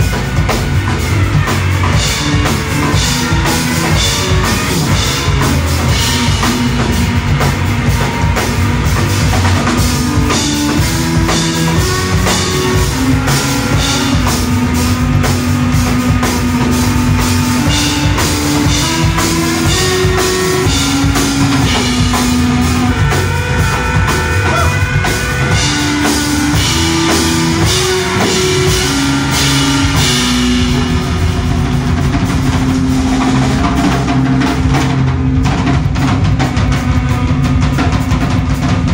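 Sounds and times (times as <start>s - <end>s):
drum kit with cymbals: 0.0s - 38.9s
electric guitar: 0.0s - 38.9s
low held bass notes: 0.0s - 38.9s.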